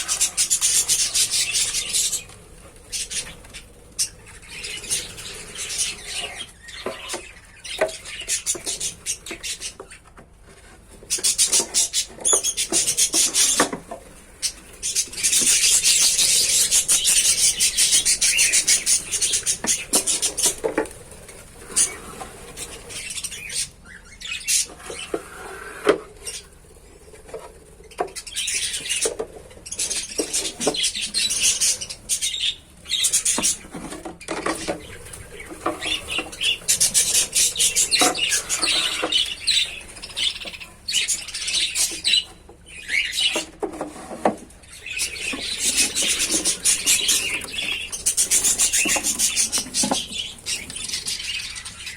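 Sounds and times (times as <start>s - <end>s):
lovebirds chattering: 0.0s - 51.9s.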